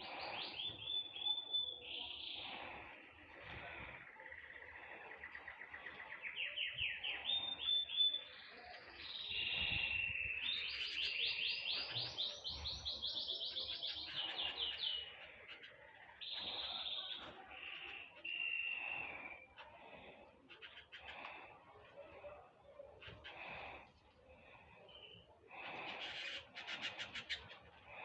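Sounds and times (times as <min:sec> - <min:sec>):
songbirds trilling: 0:00.0 - 0:28.0.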